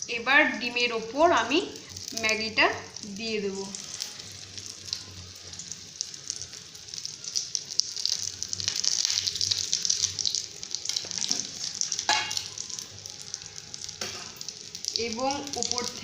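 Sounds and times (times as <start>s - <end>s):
egg sizzling in hot oil: 0.0s - 16.0s.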